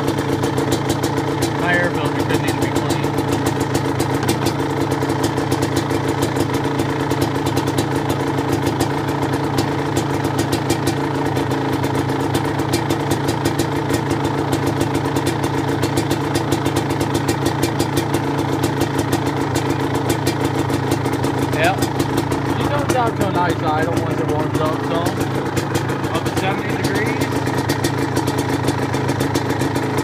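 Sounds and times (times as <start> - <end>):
two-stroke engine idling: 0.0 - 30.0.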